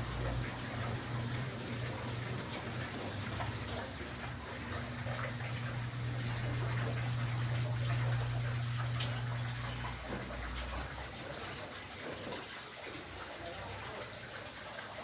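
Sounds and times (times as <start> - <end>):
water flowing: 0.0 - 15.0.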